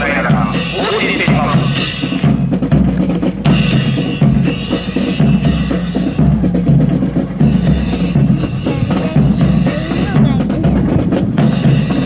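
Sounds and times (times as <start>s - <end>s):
bass and snare drums: 0.0s - 12.0s
marching music: 0.0s - 12.0s.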